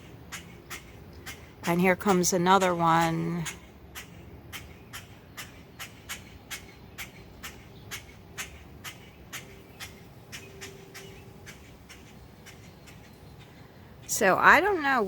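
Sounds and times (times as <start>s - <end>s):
bird alarm calls: 0.3s - 14.2s.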